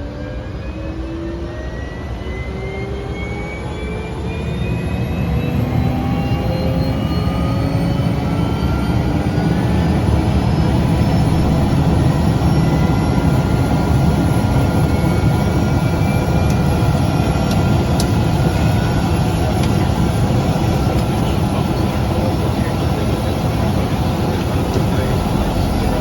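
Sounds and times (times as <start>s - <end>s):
turboprop engine drone in cabin: 0.0s - 26.0s.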